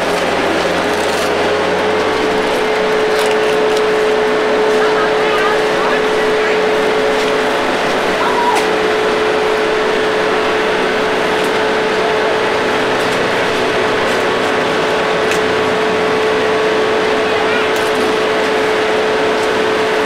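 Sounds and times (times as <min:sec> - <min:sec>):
constant hum: 0:00.0 - 0:20.0
steady machine noise: 0:00.0 - 0:20.0.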